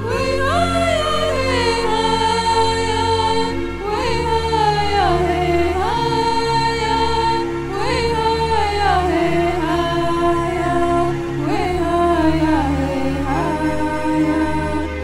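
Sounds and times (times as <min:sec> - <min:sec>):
low drone: 0:00.0 - 0:15.0.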